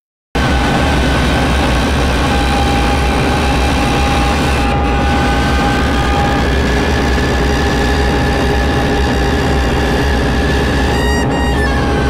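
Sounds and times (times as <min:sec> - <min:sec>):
loud low rumble: 0:00.4 - 0:12.0.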